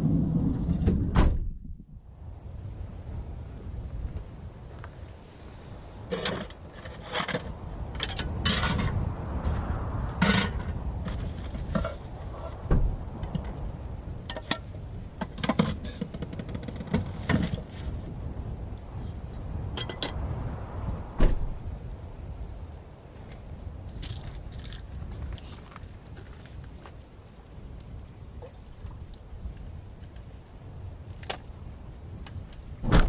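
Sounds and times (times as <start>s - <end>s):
steady low rumble: 0.0s - 33.0s.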